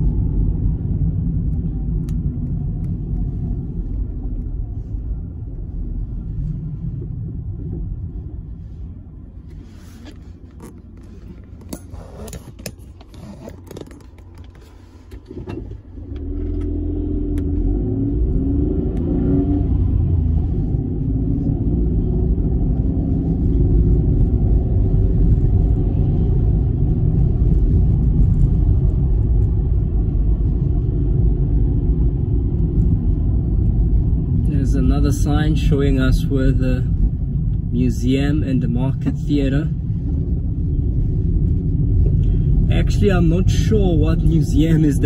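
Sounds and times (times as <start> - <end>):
car engine and tyre rumble: 0.0 - 45.0.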